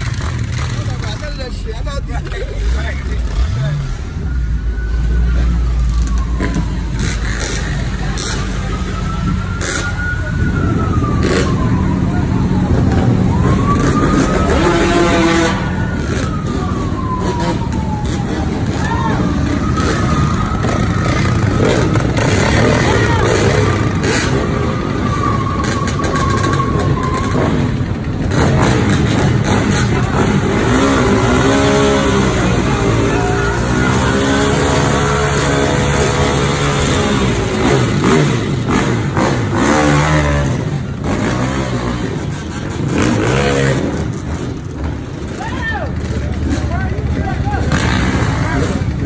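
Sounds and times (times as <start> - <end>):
engines idling: 0.0 - 49.0
faint siren wailing: 3.2 - 28.5, 29.1 - 44.8.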